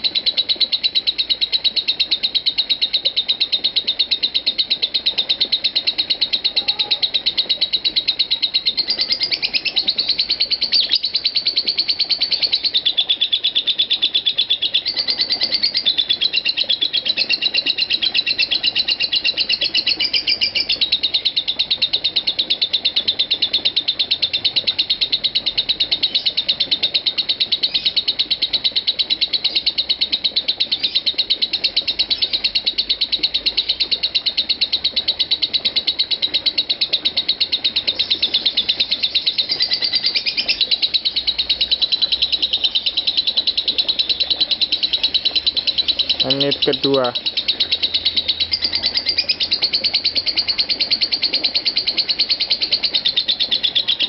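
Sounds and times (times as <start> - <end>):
lovebird chattering trill: 0.0 - 36.1, 37.0 - 54.0.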